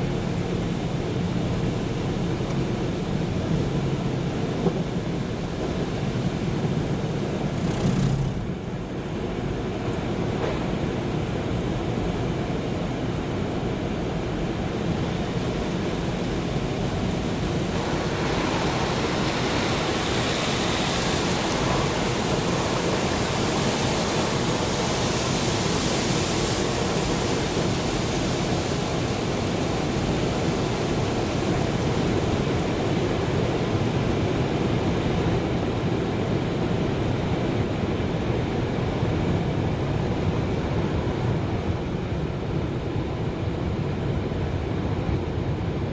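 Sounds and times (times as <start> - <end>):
car wash water spray rushing: 0.0 - 41.5.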